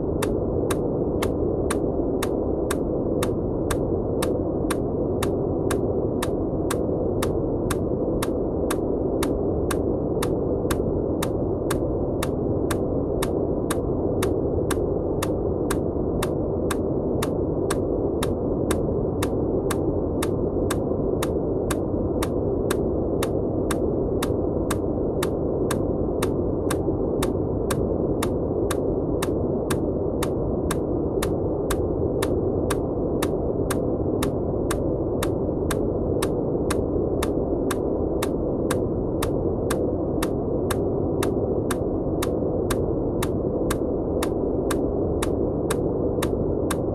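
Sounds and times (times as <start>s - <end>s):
muffled white noise: 0.0s - 46.9s.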